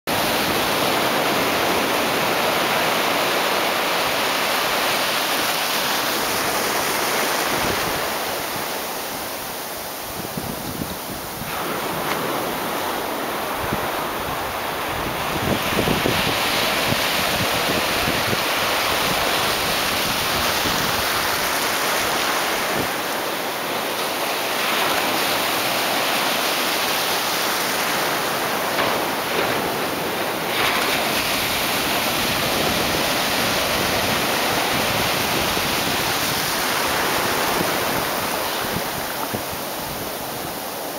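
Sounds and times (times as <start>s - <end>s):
small waves breaking: 0.1s - 40.9s.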